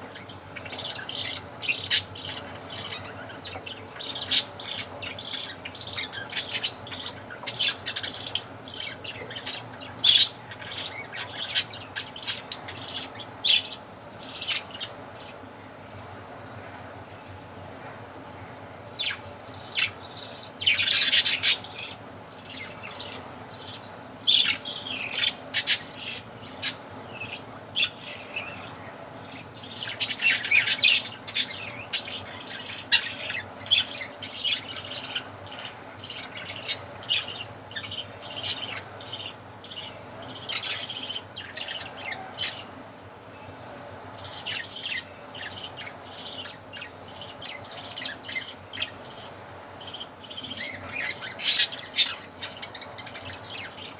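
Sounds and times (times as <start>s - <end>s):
budgerigars chirping and chattering: 0.0s - 15.4s, 18.9s - 42.8s, 43.4s - 53.9s.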